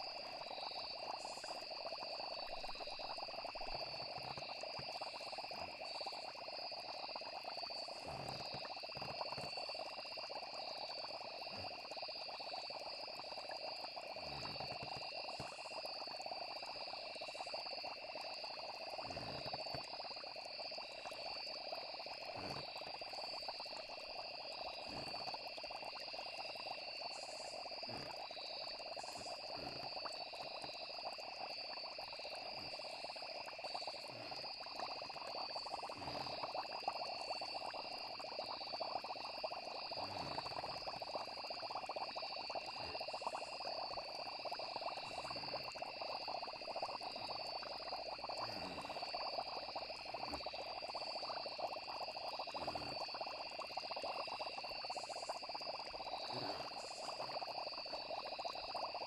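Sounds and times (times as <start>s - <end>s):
soft low plop: 0.0s - 58.6s
crickets and frogs trilling: 0.0s - 59.0s.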